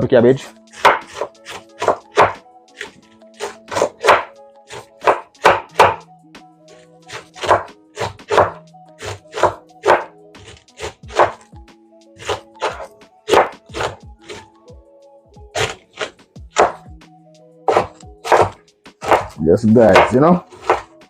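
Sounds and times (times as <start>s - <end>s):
background music: 0.0s - 21.0s
knife chopping cabbage on cutting board: 0.4s - 6.0s, 7.1s - 11.4s, 12.2s - 14.4s, 15.5s - 16.8s, 17.7s - 21.0s.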